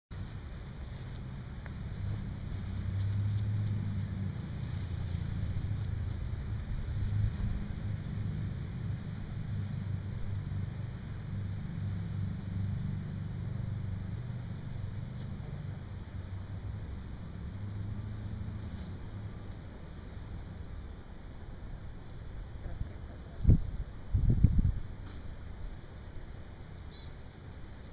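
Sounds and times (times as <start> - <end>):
low steady rumble: 0.1 - 27.9
insects chirping: 0.2 - 27.9.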